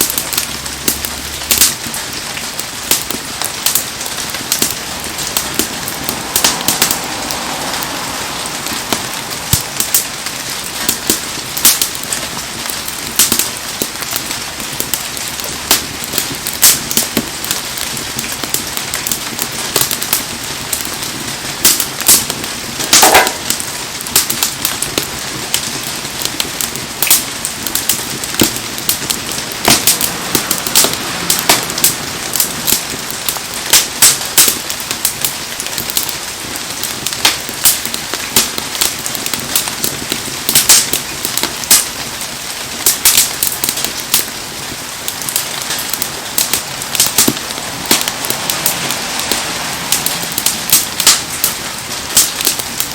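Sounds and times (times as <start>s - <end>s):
bonfire crackling and popping: 0.0s - 52.9s
heavy rain hissing: 0.0s - 52.9s.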